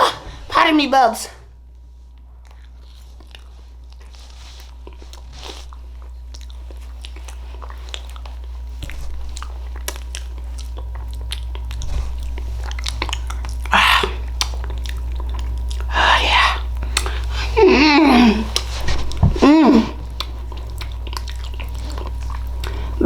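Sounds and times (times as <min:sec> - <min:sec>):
low hum: 0:00.0 - 0:23.0
chewing mouth sounds: 0:02.2 - 0:18.8, 0:19.4 - 0:23.0.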